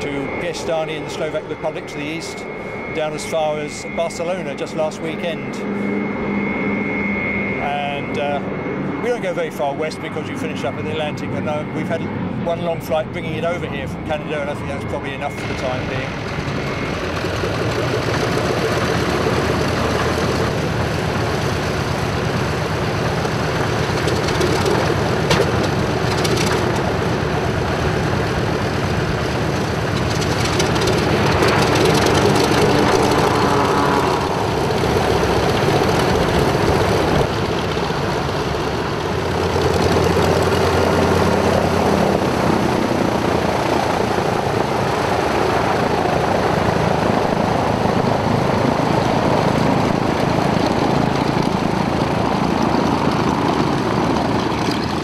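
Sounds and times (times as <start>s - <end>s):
propeller aircraft engines in flight: 0.0s - 55.0s.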